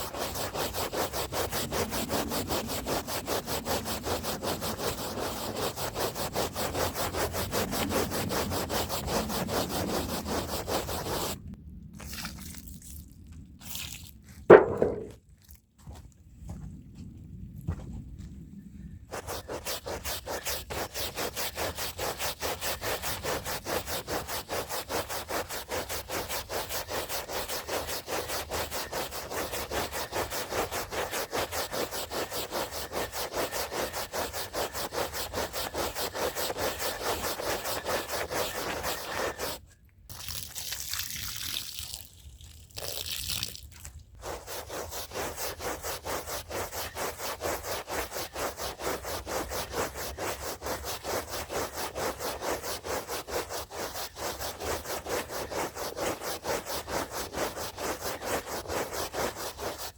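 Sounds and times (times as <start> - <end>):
brush scrubbing a wet rug: 0.0 - 11.4, 12.0 - 15.1, 19.1 - 42.1, 42.7 - 59.9.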